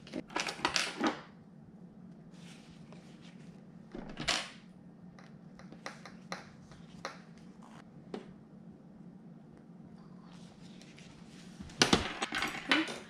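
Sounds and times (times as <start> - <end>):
steady low hum: 1.2 - 12.2.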